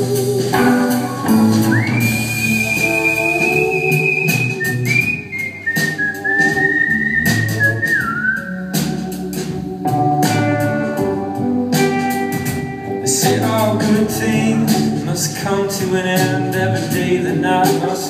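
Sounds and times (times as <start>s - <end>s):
instrumental band music with guitar: 0.0s - 18.0s.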